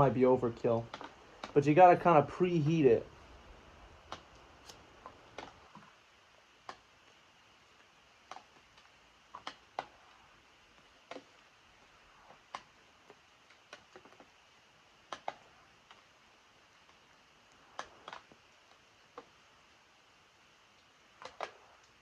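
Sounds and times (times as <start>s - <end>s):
faint hiss of rain: 0.0s - 22.0s
raindrops dripping onto a surface: 0.0s - 22.0s.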